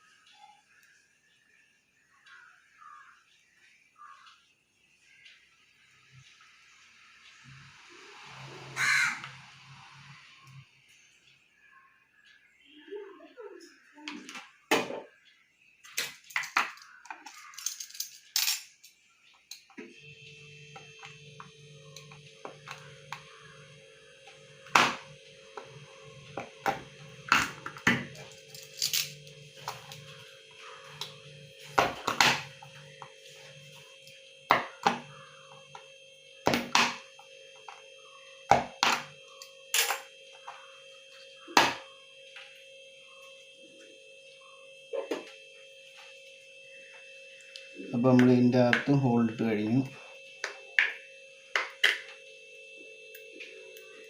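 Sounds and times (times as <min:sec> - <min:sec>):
steady tonal hum: 0:04.9 - 0:54.0.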